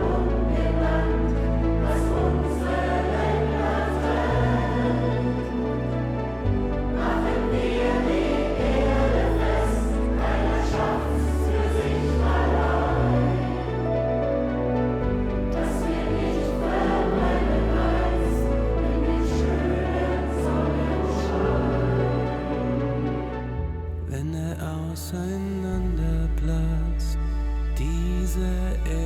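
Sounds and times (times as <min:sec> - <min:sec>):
choir singing slow chords: 0:00.0 - 0:24.2
deep bass line: 0:00.0 - 0:29.0.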